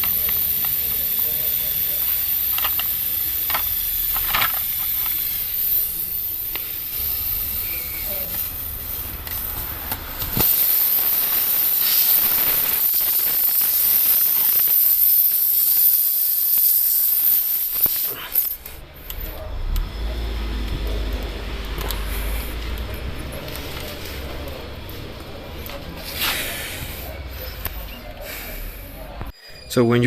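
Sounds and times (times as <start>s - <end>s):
air hissing out of tire: 0.0s - 19.4s, 21.5s - 24.7s, 26.0s - 29.2s.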